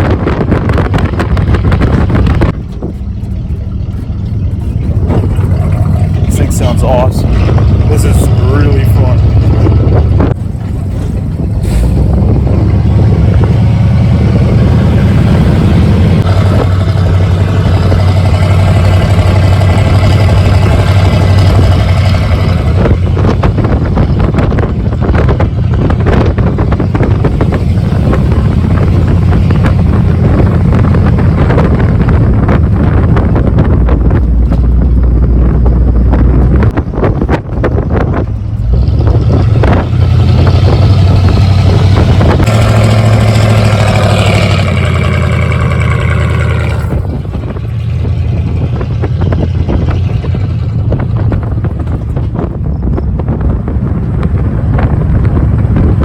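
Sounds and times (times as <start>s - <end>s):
truck engine droning: 0.0s - 56.0s.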